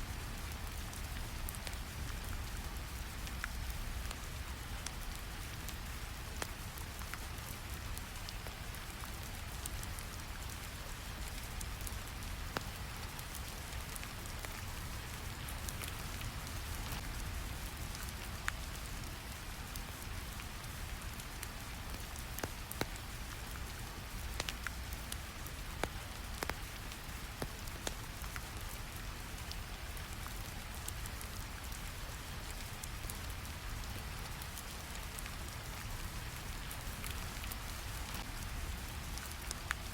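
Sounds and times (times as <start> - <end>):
steady rain: 0.0 - 39.9
fire crackling: 0.2 - 39.9.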